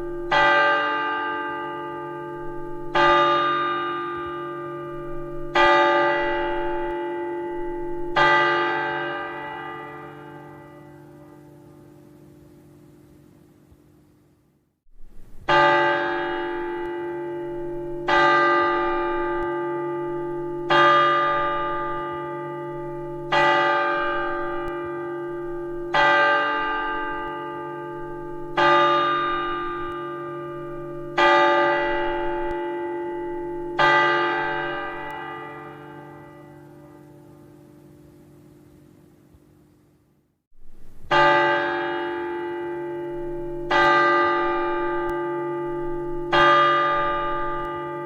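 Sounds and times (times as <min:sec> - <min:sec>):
large bell tolling: 0:00.0 - 0:12.2, 0:15.2 - 0:37.6, 0:40.6 - 0:48.0.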